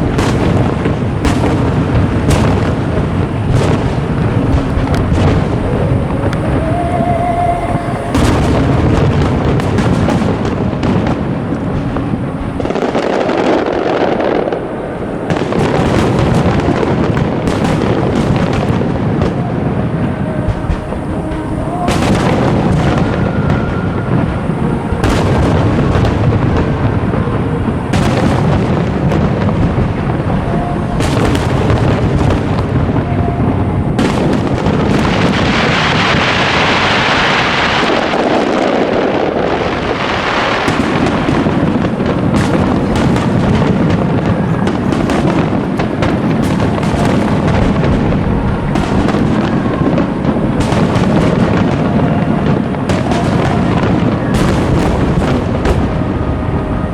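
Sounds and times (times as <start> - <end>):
fireworks booming and crackling: 0.0 - 56.9
hissing rush: 0.0 - 56.9.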